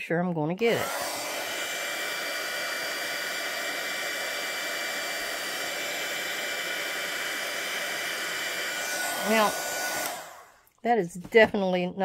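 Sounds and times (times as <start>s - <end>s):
heat gun blowing with motor whine: 0.6s - 10.7s.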